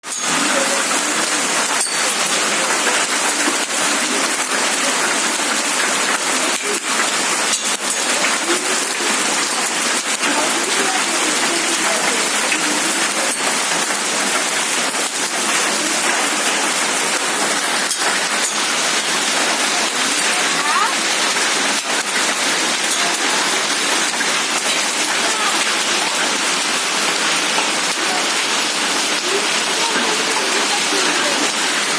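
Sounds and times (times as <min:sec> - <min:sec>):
hail ticking: 0:00.0 - 0:31.9
heavy rain hiss: 0:00.0 - 0:31.9.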